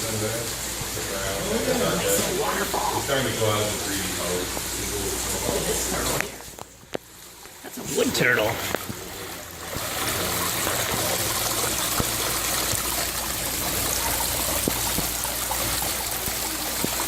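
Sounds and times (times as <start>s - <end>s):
waterfall water trickling: 0.0s - 17.0s.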